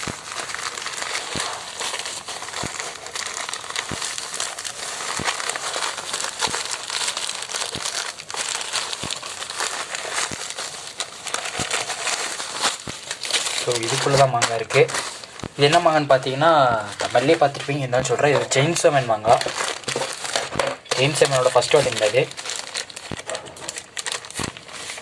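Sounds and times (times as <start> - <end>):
bubble wrap crinkling: 0.0 - 25.0.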